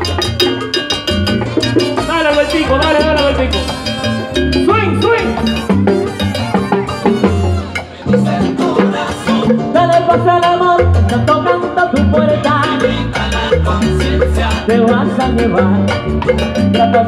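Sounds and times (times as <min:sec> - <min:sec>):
bass line: 0:00.0 - 0:17.0
salsa band playing: 0:00.0 - 0:17.0
timbales and percussion: 0:00.0 - 0:17.0.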